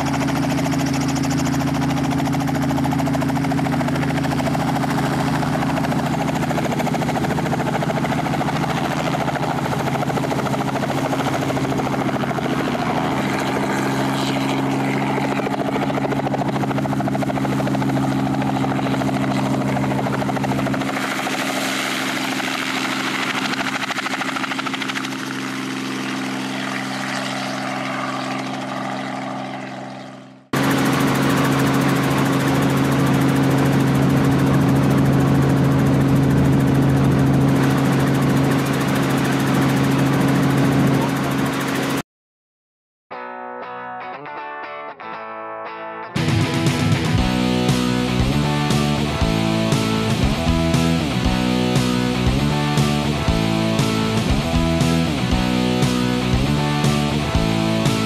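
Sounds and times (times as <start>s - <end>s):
helicopter engine and rotor: 0.0s - 42.0s, 46.2s - 58.0s.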